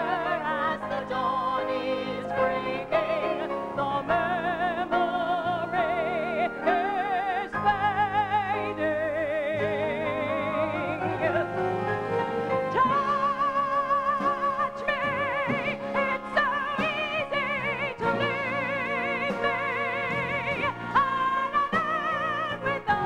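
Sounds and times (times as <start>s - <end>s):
woman singing a ballad: 0.0s - 11.6s, 12.4s - 23.0s
instrumental accompaniment: 0.0s - 23.0s.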